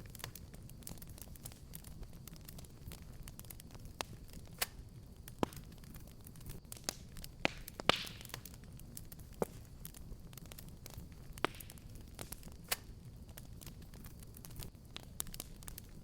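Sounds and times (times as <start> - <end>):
fire hiss: 0.0 - 16.0
wood fire crackling: 0.0 - 16.0.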